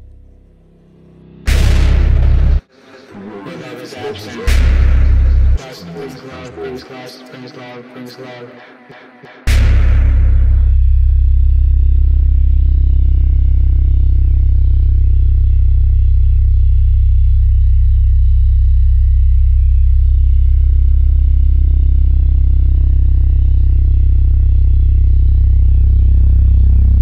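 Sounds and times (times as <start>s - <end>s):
low electronic drone: 0.0s - 27.0s.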